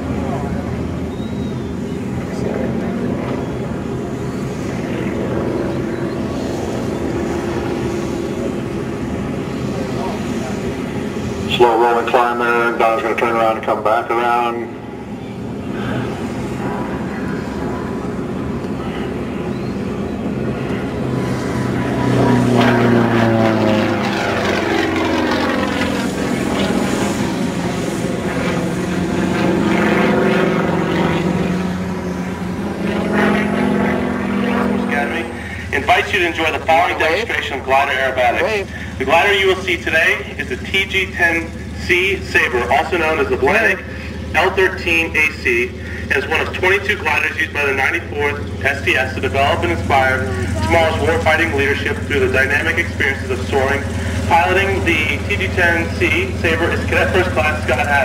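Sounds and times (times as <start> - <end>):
propeller airplane engine drone: 0.0 - 58.0.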